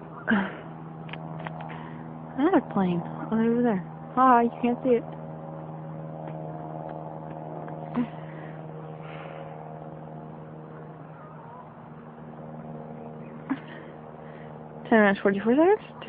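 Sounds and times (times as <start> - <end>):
propeller airplane droning: 0.0 - 16.0.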